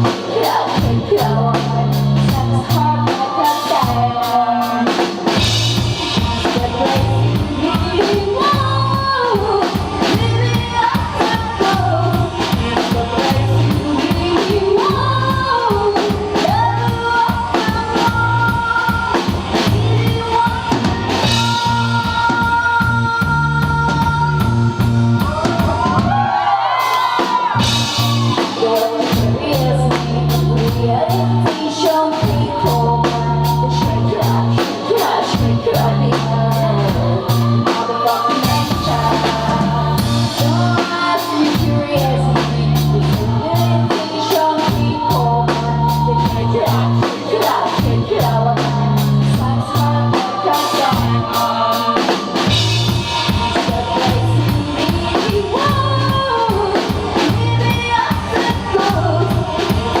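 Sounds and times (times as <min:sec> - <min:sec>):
bass line: 0:00.0 - 1:00.0
drum kit beat: 0:00.0 - 1:00.0
vocals: 0:00.0 - 1:00.0.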